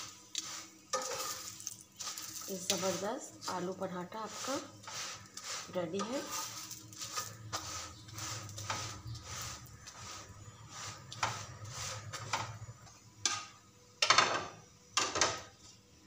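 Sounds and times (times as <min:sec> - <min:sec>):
spatula scraping on griddle: 0:00.0 - 0:15.7.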